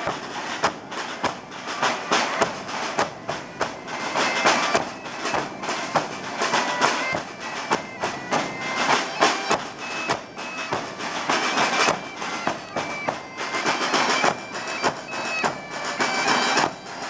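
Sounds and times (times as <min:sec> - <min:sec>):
bagpipe melody: 0:00.0 - 0:17.0.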